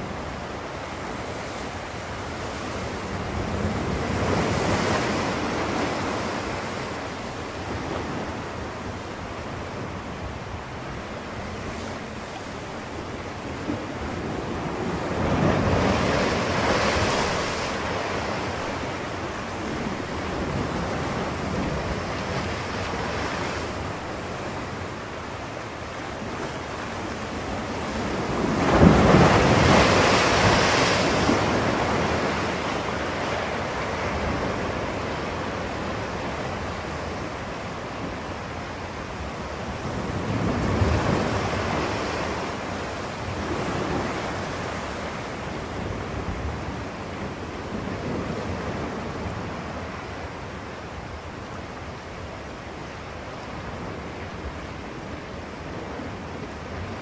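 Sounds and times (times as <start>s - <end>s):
ocean surf washing in: 0.0s - 57.0s.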